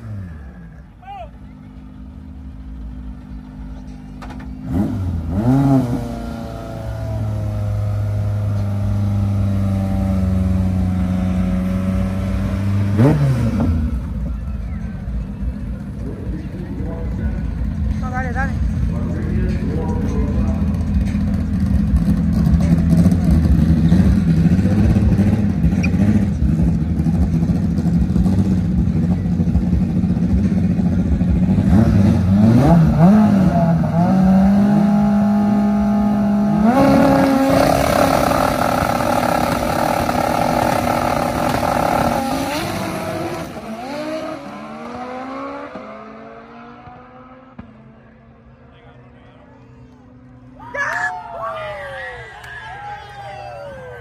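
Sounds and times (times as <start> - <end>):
drag car engine roaring: 0.0 - 54.0.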